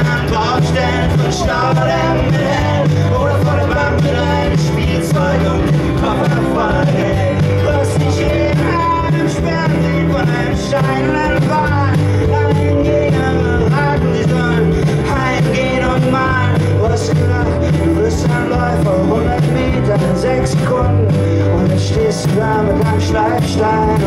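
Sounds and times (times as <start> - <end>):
keyboards: 0.0 - 24.0
live band playing: 0.0 - 24.0
man singing: 0.0 - 24.0
strummed acoustic guitar: 0.0 - 24.0.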